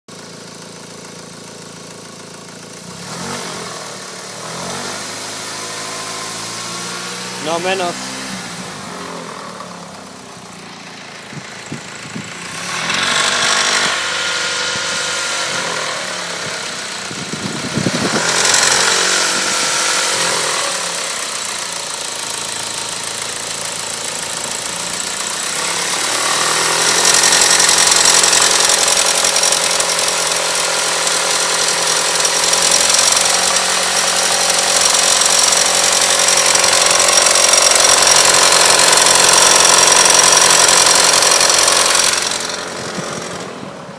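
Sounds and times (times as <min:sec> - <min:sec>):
car engine running: 0:00.1 - 0:43.9.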